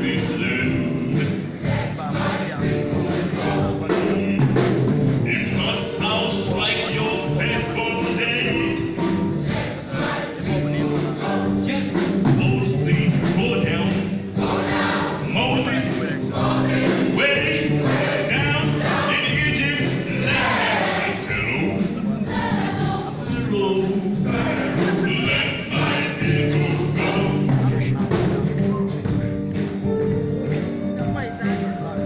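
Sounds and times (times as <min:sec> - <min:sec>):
choir singing a gospel song: 0:00.0 - 0:04.4, 0:05.3 - 0:27.6.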